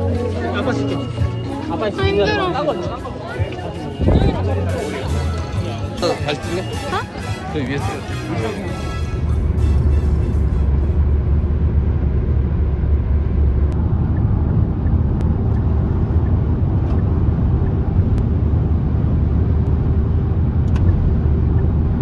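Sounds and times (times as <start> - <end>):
car interior road rumble: 3.2 - 22.0.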